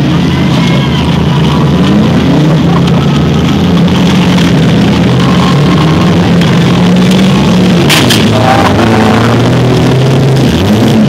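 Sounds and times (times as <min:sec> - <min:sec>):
car engines running together: 0:00.0 - 0:11.0.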